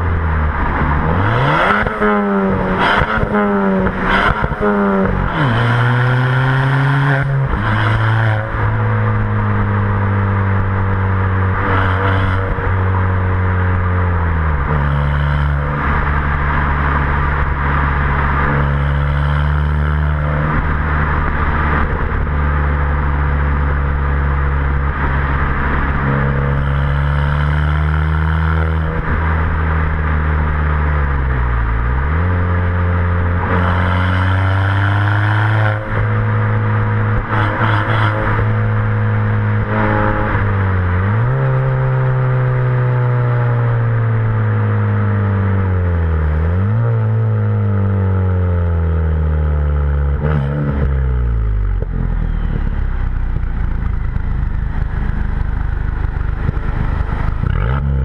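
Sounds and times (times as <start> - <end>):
car exhaust while driving: 0.0 - 58.0
exhaust crackle: 0.0 - 58.0.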